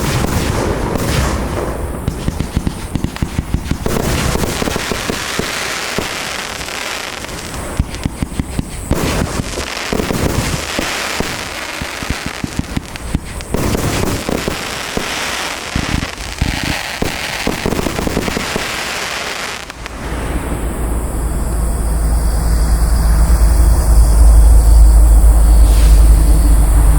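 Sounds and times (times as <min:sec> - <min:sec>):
firework shots and bursts: 0:00.0 - 0:21.7
continuous noisy haze: 0:00.0 - 0:26.9.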